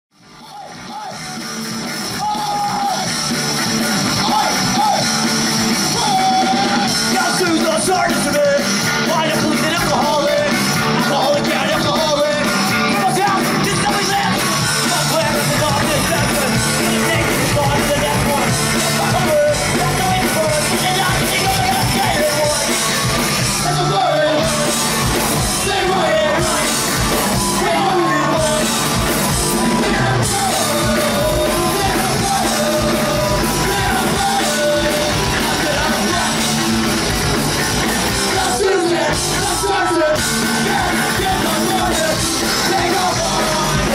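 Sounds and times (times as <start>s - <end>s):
bass guitar: 0.1s - 43.9s
drums: 0.1s - 43.9s
electric guitars: 0.7s - 43.9s
person singing into microphone: 5.8s - 37.0s, 37.7s - 43.9s.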